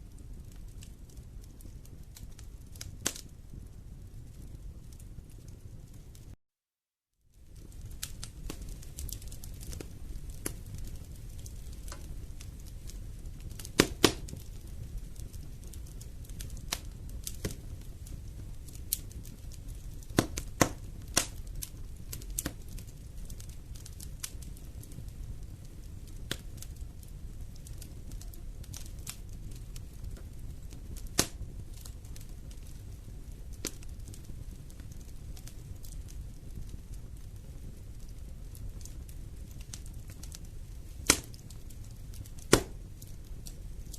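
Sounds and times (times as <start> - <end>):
fire crackles and pops: 0.0 - 6.4, 7.2 - 43.9
fire flames rumbling: 0.0 - 6.4, 7.3 - 43.9.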